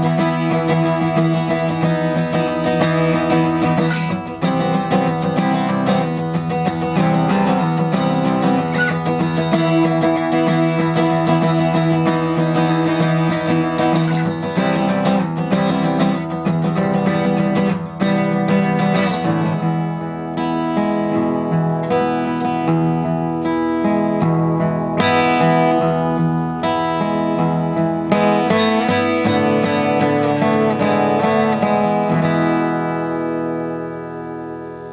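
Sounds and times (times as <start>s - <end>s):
acoustic guitar music: 0.0s - 34.9s.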